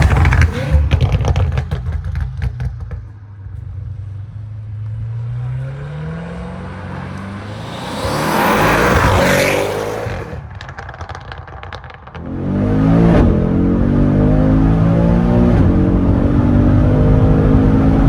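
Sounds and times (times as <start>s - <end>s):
car accelerating and passing: 0.0s - 18.0s.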